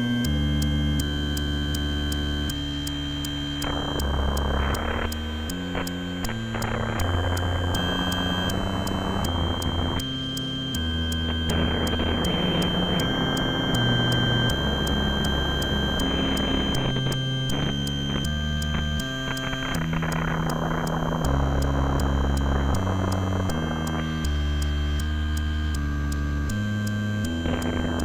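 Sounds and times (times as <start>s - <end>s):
high-pitched synth whines: 0.0s - 28.0s
low synth line: 0.0s - 28.0s
ticking pulse: 0.1s - 28.0s.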